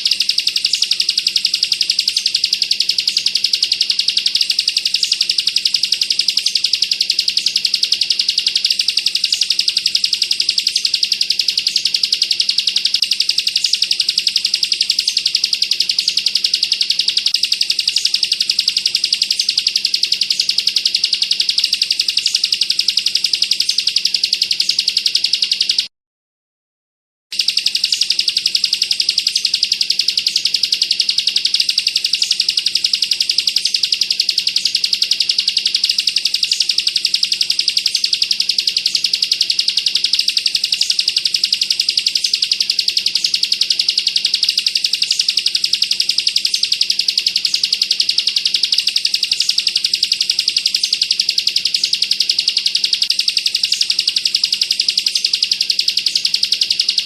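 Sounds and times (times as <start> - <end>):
bird singing fast trill: 0.0 - 25.9, 27.3 - 57.0
faint high ticks: 0.0 - 25.9, 27.4 - 57.0.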